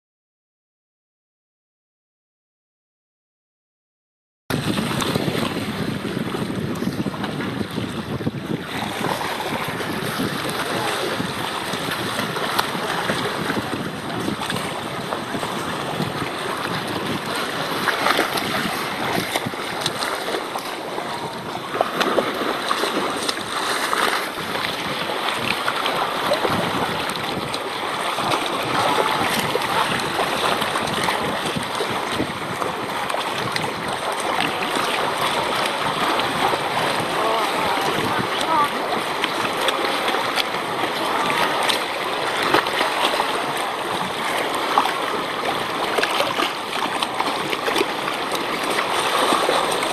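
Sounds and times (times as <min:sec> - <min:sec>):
water lapping: 0:04.5 - 0:49.9
wind buffeting microphone: 0:04.5 - 0:49.9
sharp water splashes: 0:08.5 - 0:49.9.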